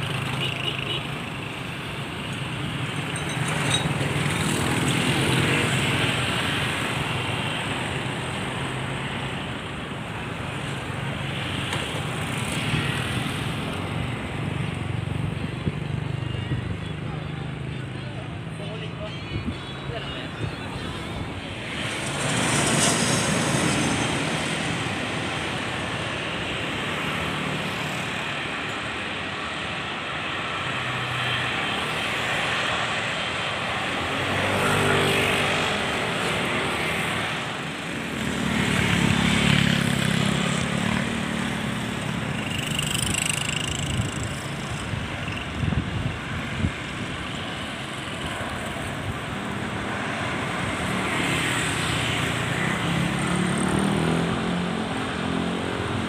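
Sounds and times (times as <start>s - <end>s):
aircraft engines roaring: 0.0s - 56.0s.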